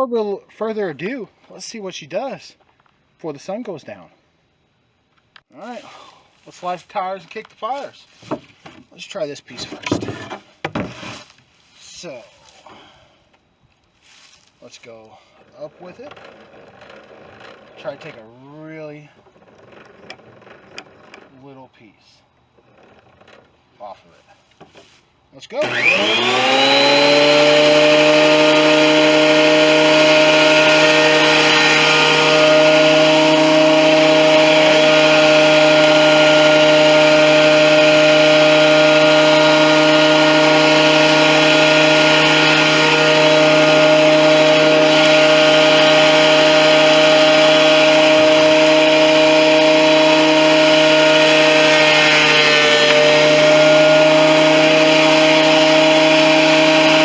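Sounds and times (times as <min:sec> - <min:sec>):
thickness planer whining: 0:06.6 - 0:12.9, 0:14.0 - 0:21.7, 0:22.5 - 0:24.0, 0:25.5 - 0:57.0.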